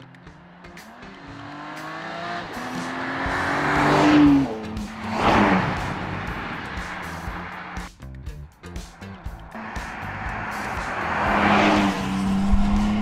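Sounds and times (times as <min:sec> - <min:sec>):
car engine accelerating past: 0:00.2 - 0:07.9, 0:08.9 - 0:13.0.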